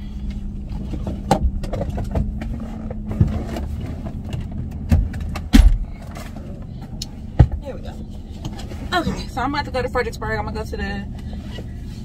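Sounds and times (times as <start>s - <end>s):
car cabin hum and rumble: 0.0s - 12.0s.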